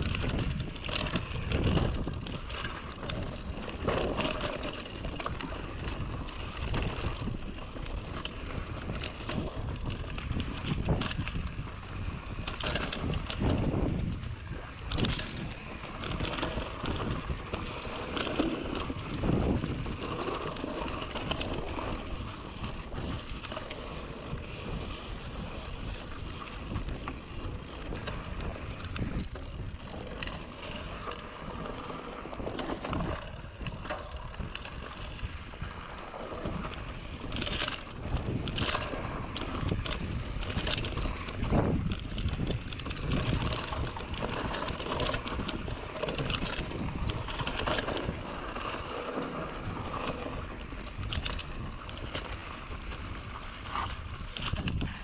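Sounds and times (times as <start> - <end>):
bike rattling over rough ground: 0.0 - 55.0
bike tyres rolling on dirt: 0.0 - 55.0
wind on microphone: 0.0 - 55.0.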